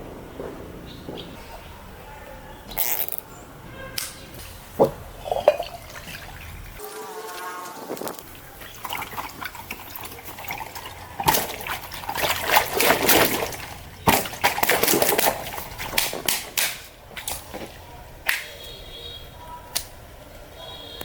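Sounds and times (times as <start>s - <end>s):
water splashing: 0.0s - 19.0s.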